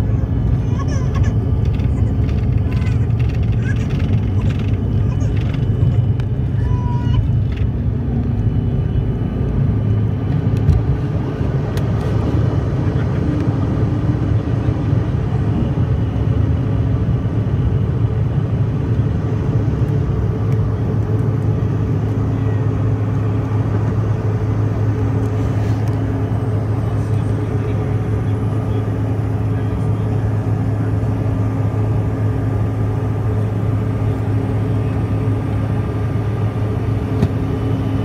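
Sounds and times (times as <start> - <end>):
jet engines droning in cabin: 0.0 - 38.0.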